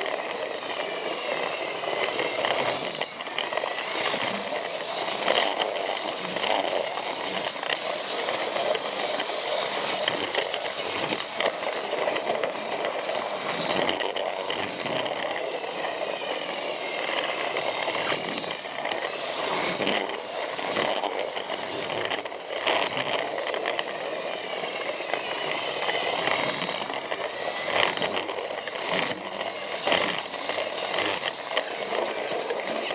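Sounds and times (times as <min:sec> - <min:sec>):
toy train motor whirring: 0:00.0 - 0:32.9.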